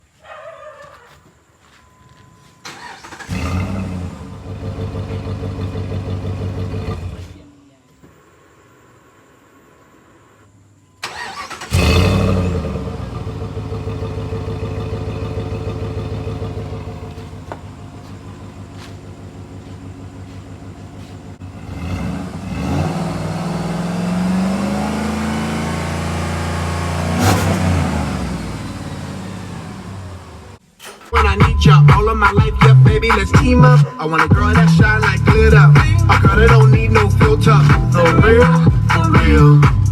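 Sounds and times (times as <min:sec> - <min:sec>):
car engine starting and revving: 0:02.6 - 0:07.5, 0:11.0 - 0:39.9.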